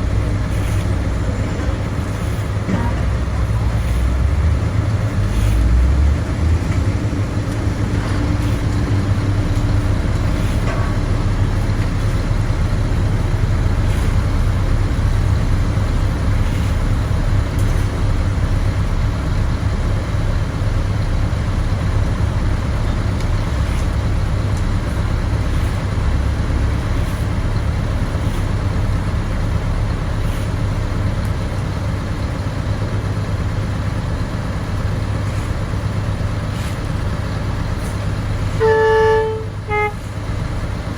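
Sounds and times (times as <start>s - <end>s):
diesel machinery engine rumble: 0.0s - 40.9s.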